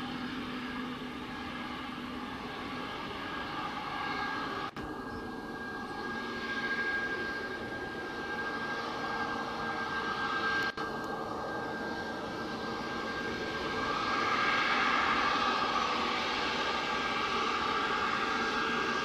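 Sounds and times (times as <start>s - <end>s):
jet engine whine at taxi: 0.0s - 19.0s.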